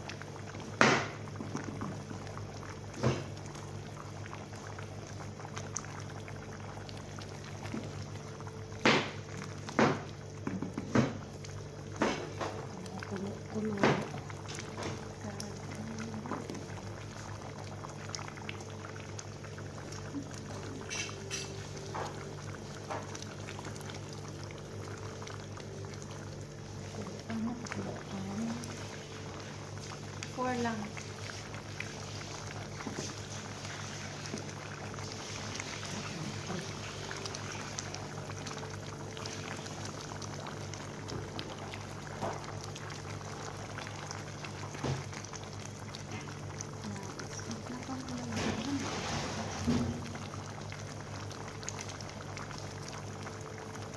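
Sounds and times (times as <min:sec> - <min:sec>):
pops and crackles: 0:00.0 - 0:33.6, 0:35.8 - 0:53.9
curry bubbling in a pot: 0:00.0 - 0:53.9.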